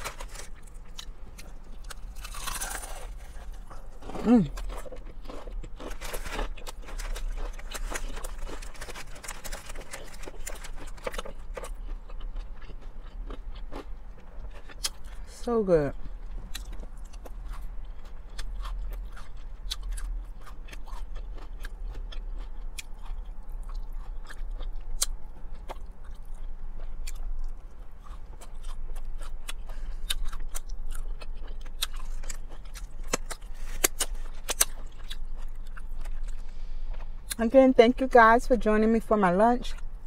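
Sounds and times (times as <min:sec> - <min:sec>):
chewing and crunching: 0:00.0 - 0:38.1
steady low hum: 0:00.0 - 0:40.0.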